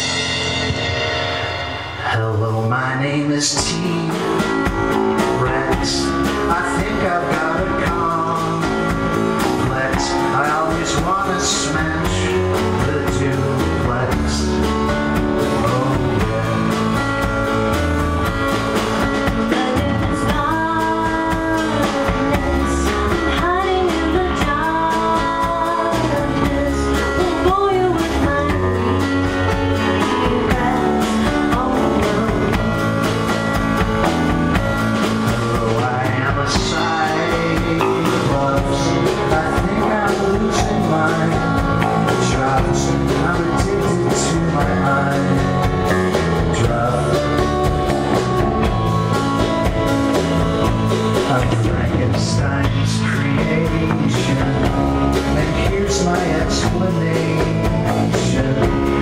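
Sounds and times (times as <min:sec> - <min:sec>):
rock band playing: 0:00.0 - 0:59.0
person singing: 0:01.9 - 0:17.4, 0:19.0 - 0:34.2, 0:35.0 - 0:59.0.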